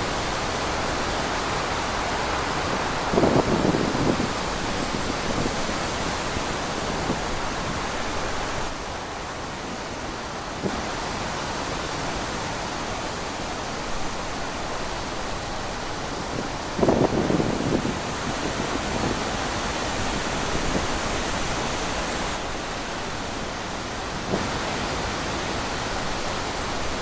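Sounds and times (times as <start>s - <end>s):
wind blowing through trees: 0.0s - 27.0s.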